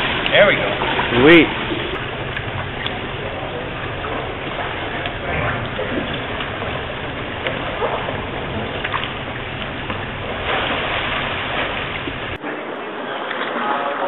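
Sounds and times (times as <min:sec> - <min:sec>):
low background rumble: 0:00.0 - 0:12.4
water splashing in pool: 0:00.0 - 0:14.0.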